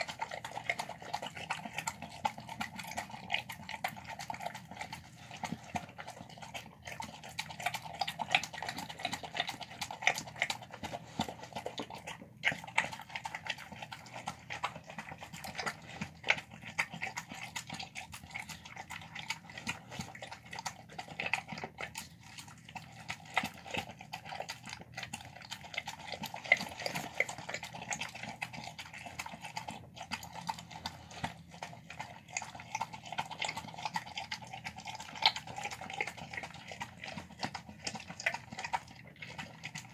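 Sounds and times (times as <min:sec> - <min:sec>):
dog chewing and licking: 0:00.0 - 0:39.9.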